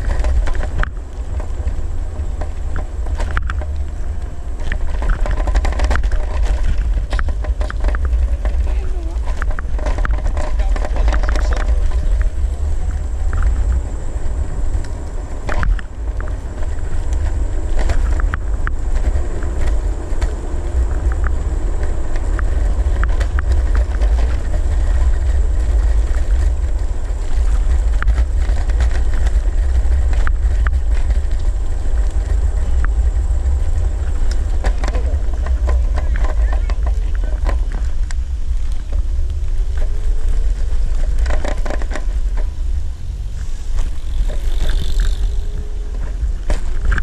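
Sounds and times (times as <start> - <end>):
small clicks and rattles: 0.0 - 42.8, 43.4 - 47.0
road noise: 0.0 - 47.0
wind buffeting microphone: 0.0 - 47.0.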